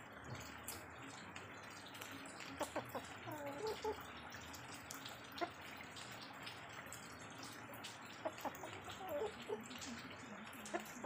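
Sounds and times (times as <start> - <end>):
water drips: 0.0 - 11.0
water trickling: 0.0 - 11.0.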